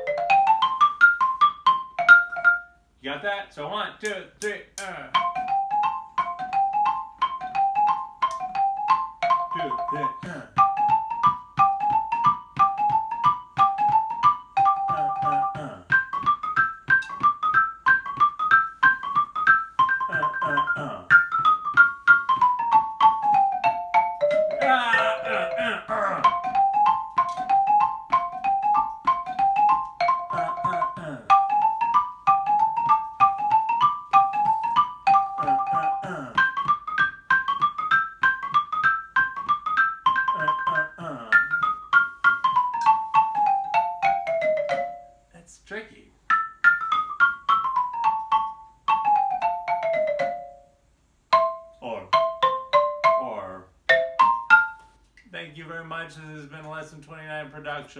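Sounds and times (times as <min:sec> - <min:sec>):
xylophone played with mallets: 0:00.0 - 0:02.9, 0:04.4 - 0:45.3, 0:46.3 - 0:55.2.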